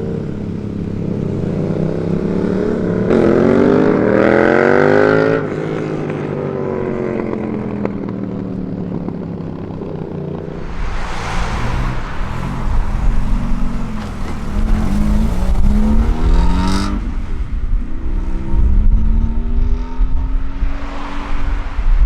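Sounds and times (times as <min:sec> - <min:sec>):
car engine accelerating hard: 0:00.0 - 0:22.0
exhaust and tyre noise: 0:00.0 - 0:22.0.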